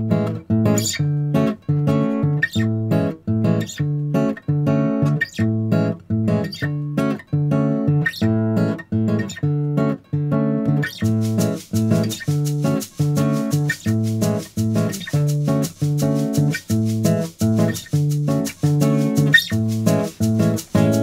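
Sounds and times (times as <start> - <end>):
acoustic guitar plucked chords: 0.0 - 21.0.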